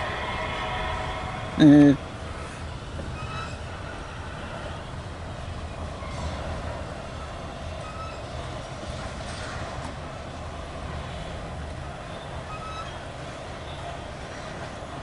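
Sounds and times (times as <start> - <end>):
freight train rumbling over bridge: 0.0 - 15.0.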